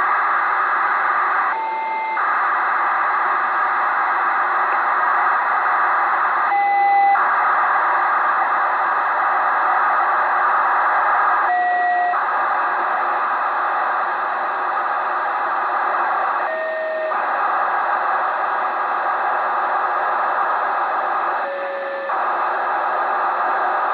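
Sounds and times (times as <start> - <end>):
rushing data signal: 0.0 - 23.7
receiver hiss: 0.0 - 23.9.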